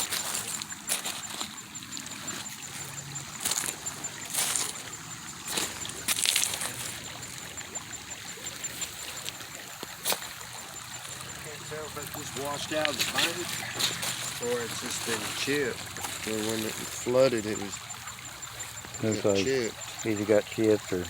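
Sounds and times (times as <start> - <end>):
creek water trickling: 0.0 - 21.0
water splashes: 0.0 - 21.0.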